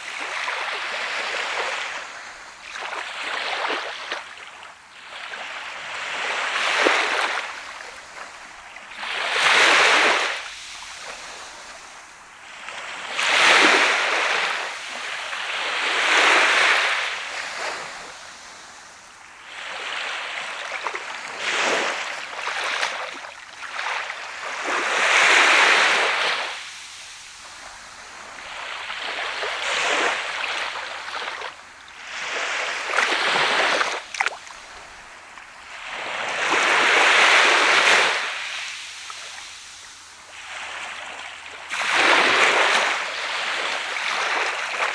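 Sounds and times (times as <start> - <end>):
small waves breaking on beach: 0.0 - 44.9.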